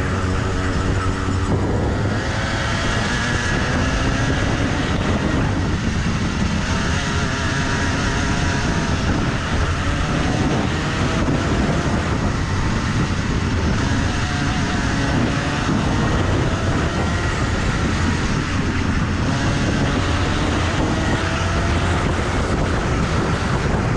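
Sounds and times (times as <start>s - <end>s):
kart engine at high revs: 0.0s - 23.9s.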